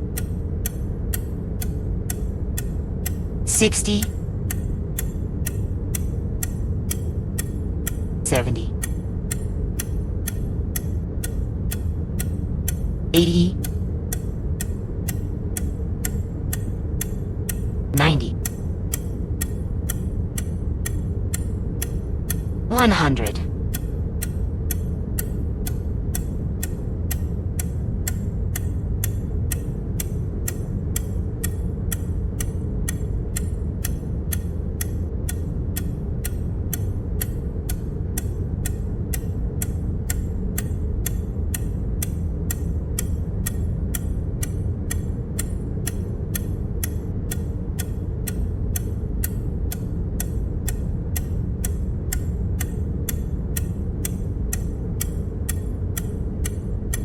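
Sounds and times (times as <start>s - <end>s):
steady low rumble: 0.0s - 57.0s
sound-effect tick: 0.1s - 57.0s.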